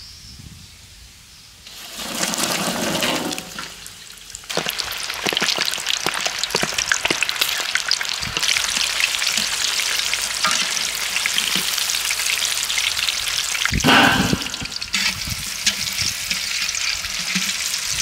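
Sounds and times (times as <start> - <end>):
garlic deep-frying in hot oil: 1.6 - 18.0.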